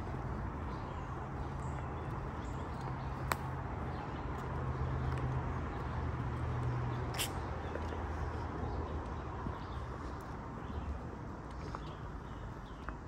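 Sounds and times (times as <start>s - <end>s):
footsteps on asphalt: 0.0s - 13.0s.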